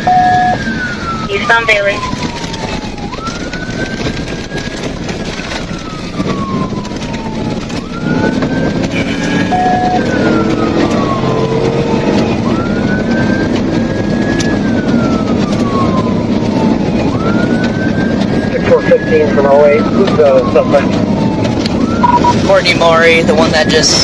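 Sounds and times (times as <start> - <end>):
engine and road noise: 0.0 - 24.0
police siren wailing: 0.0 - 24.0.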